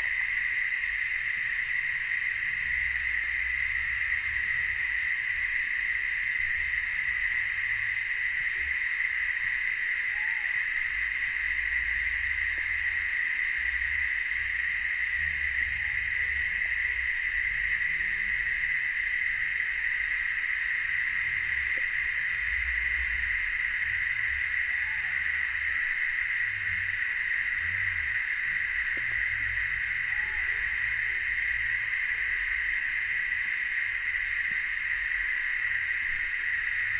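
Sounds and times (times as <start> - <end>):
cicadas droning: 0.0 - 36.9.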